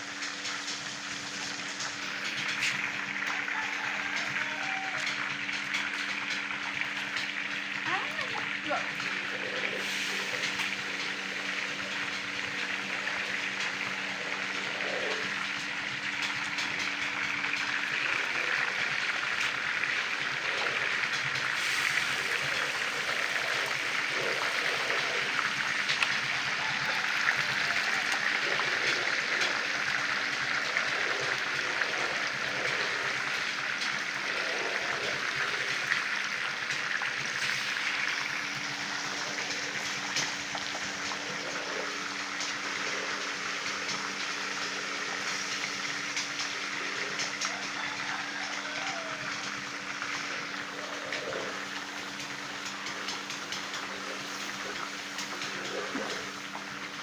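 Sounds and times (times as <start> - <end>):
oil sizzling and crackling: 0.0 - 57.0.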